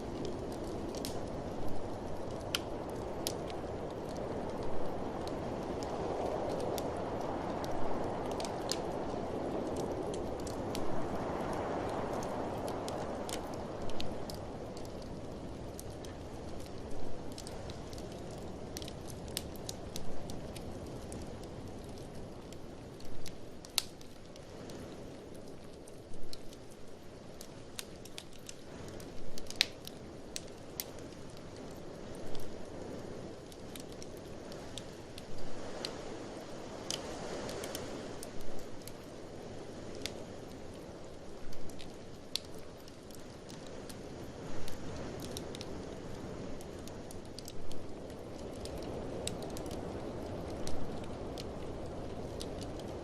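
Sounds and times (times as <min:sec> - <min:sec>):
blizzard wind rumble: 0:00.0 - 0:53.0
wood fire crackling: 0:00.0 - 0:53.0.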